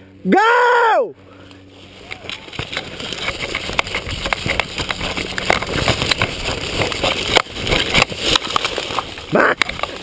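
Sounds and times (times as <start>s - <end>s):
branches scraping past camera: 1.6s - 10.0s
twigs snapping: 2.0s - 10.0s.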